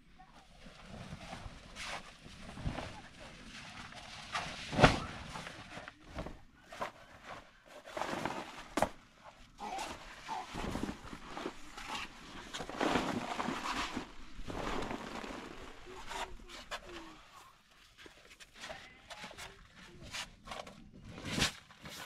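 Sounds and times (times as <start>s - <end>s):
canvas rustling and scraping: 0.0s - 22.0s.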